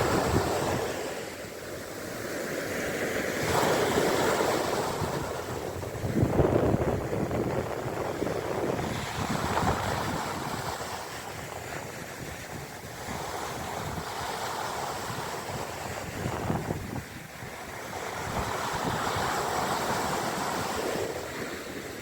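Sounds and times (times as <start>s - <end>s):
wind buffeting microphone: 0.0s - 2.0s, 3.2s - 22.0s
sea waves washing onto shore: 0.0s - 22.0s.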